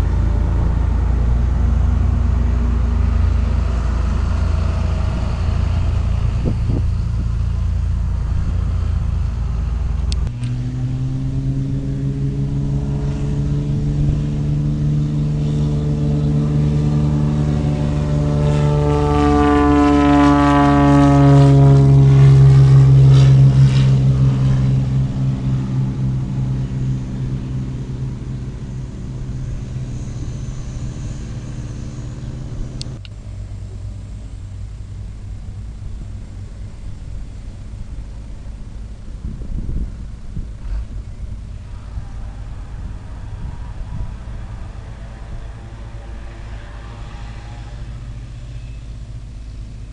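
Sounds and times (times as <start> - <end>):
aircraft passing overhead: 0.0 - 49.9.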